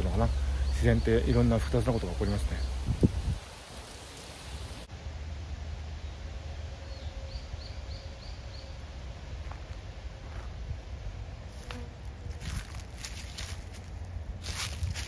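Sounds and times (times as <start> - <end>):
low outdoor rumble: 0.0 - 3.8, 4.6 - 15.0.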